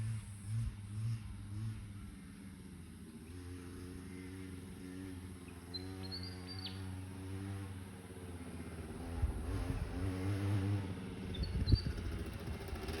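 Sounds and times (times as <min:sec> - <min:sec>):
dirt bike engine buzzing: 0:00.0 - 0:13.0.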